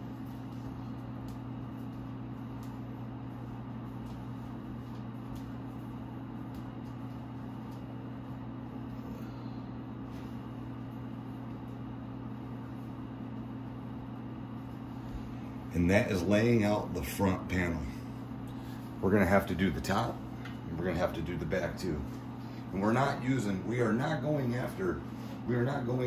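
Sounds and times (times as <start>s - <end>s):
low hum of room equipment: 0.0s - 26.0s.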